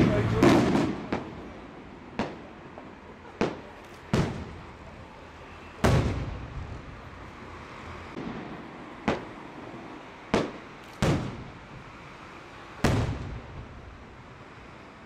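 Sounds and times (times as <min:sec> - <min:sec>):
firework bangs: 0:00.0 - 0:07.3, 0:08.1 - 0:14.1.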